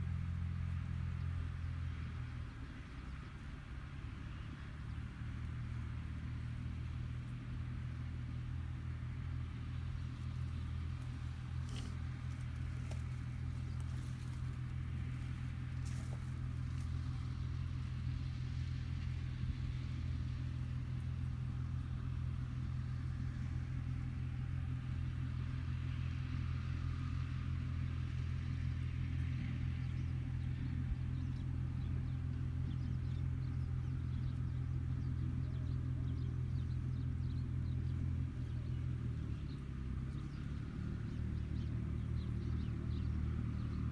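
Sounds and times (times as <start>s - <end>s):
tractor diesel engine drone: 0.0s - 43.9s.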